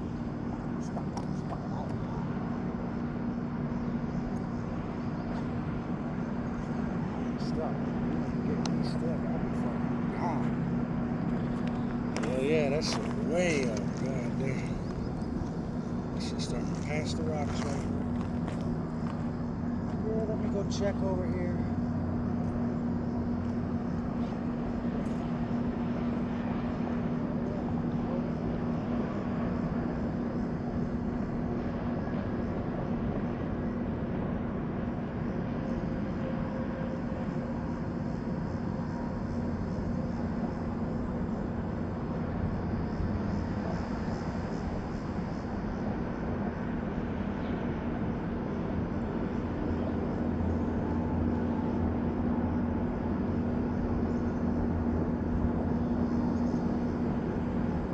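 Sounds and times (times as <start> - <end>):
constant low hum: 0.0 - 57.9.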